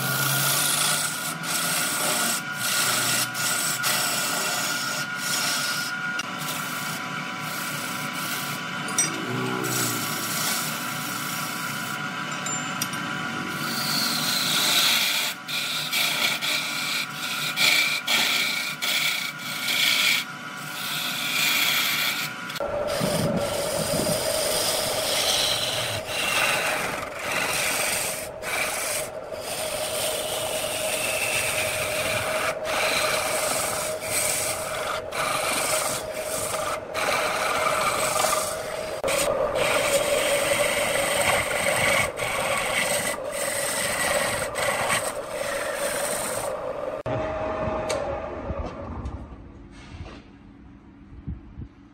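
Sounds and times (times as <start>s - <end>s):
lathe tool scraping wood: 0.0s - 12.3s, 13.3s - 47.1s
steady hum: 0.0s - 51.9s.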